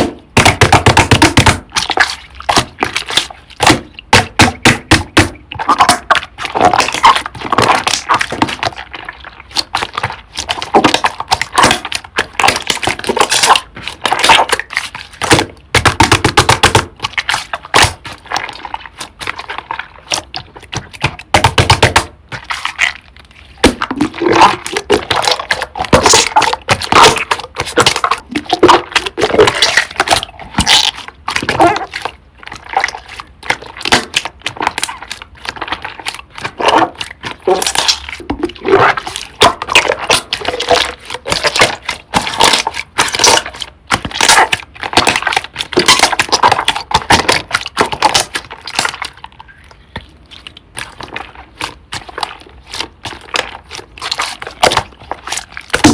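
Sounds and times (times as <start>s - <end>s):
slime popping and crackling: 0.0s - 55.9s.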